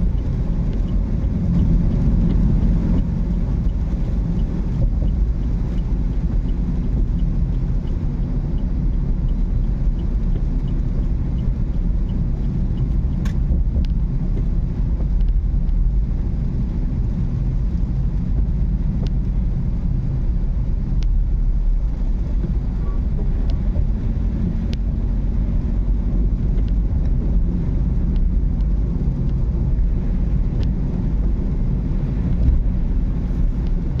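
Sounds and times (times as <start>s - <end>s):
faint regular ticking: 0.0s - 33.9s
car road and engine rumble: 0.0s - 34.0s.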